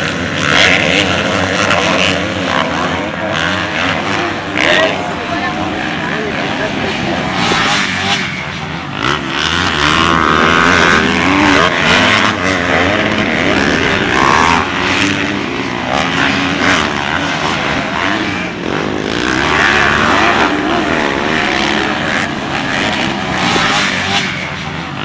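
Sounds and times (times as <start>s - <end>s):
motocross bikes revving: 0.0s - 25.0s.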